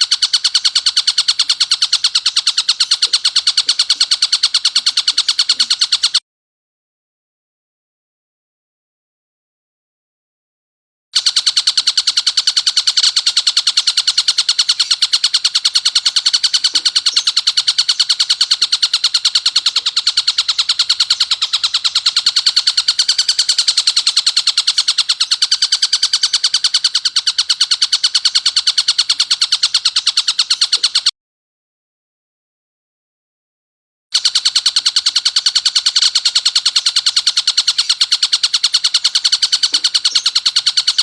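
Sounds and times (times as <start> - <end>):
kingfisher rattling call: 0.0 - 6.2, 11.2 - 31.1, 34.2 - 41.0.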